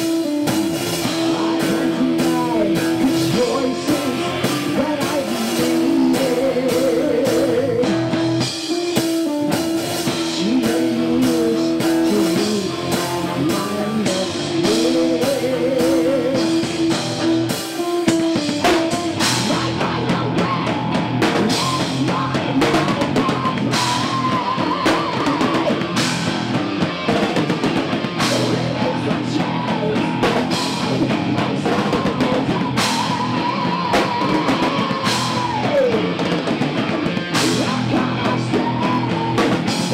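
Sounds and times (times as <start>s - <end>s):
distorted electric guitar: 0.0s - 39.9s
drum kit: 0.0s - 39.9s
heavy metal band playing: 0.0s - 39.9s.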